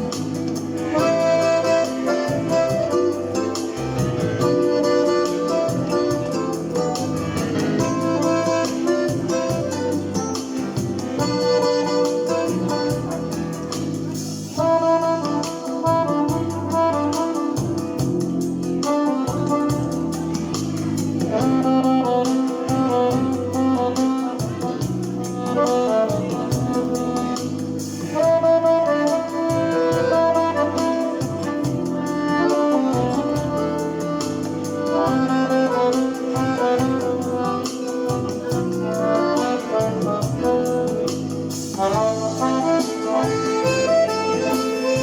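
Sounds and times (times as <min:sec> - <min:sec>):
midi backing track with bass: 0:00.0 - 0:45.0
reedy lead melody: 0:00.0 - 0:45.0.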